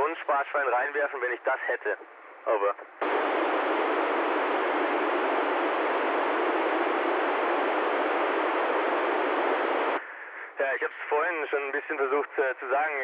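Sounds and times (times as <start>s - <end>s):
radio static hiss: 0.3s - 13.0s.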